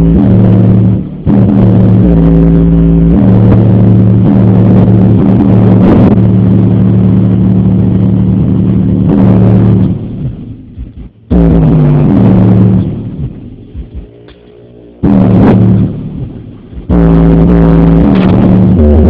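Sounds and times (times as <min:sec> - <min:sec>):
distorted heavy bass from subwoofer: 0:00.0 - 0:19.0.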